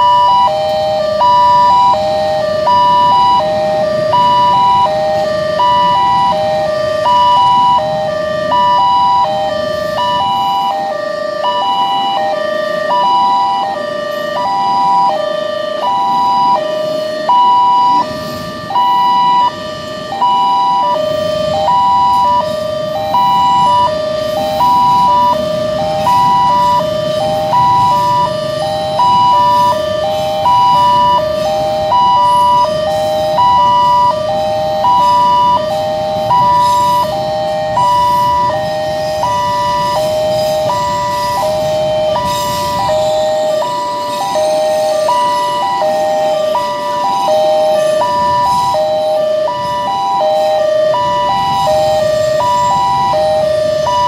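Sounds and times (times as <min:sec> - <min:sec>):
freight train rumble: 0:00.0 - 0:54.0
level crossing alarm: 0:00.0 - 0:54.0.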